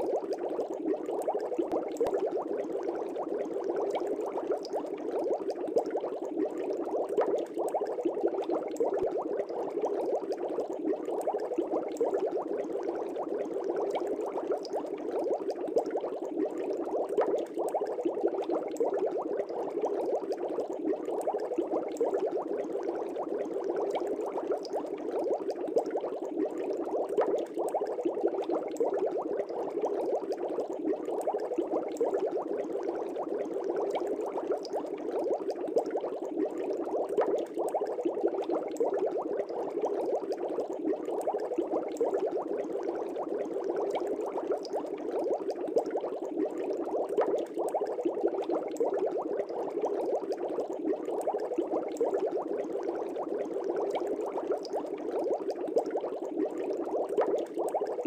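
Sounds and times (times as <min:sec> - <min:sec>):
aquarium air bubbling: 0:00.0 - 0:58.0.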